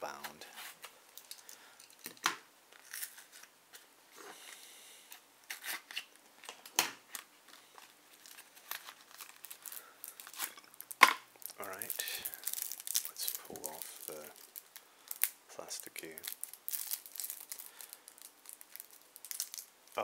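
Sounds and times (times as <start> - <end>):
shrink-wrap crinkling: 0.1 - 3.9, 5.1 - 20.0.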